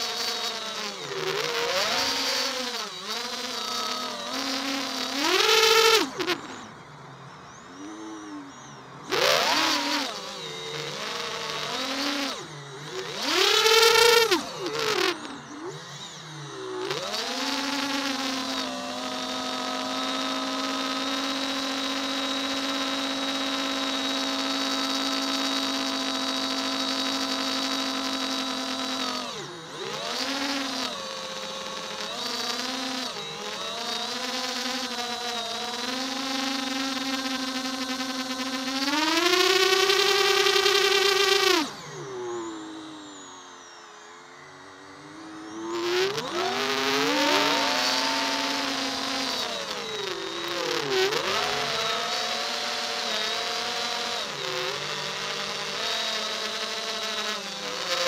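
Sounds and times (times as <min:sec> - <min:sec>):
quadcopter motors and propellers whining: 0:00.0 - 0:58.0.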